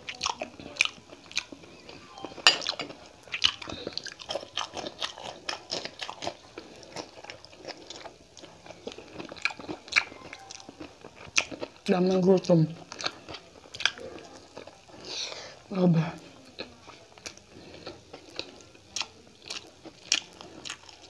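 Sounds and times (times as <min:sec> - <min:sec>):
crunchy chewing: 0:00.0 - 0:02.0, 0:02.6 - 0:15.3, 0:16.4 - 0:21.0.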